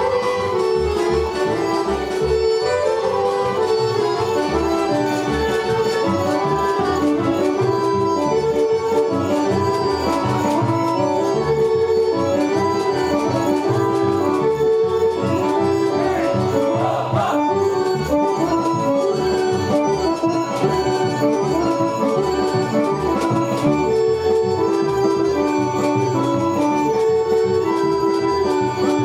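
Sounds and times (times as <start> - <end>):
folk dance music on accordion: 0.0 - 29.0.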